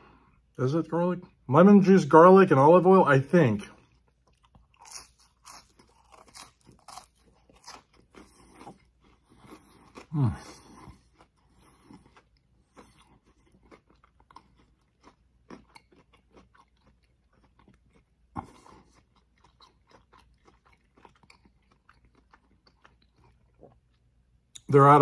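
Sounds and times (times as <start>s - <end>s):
person chewing crunchy chips: 3.7s - 24.7s.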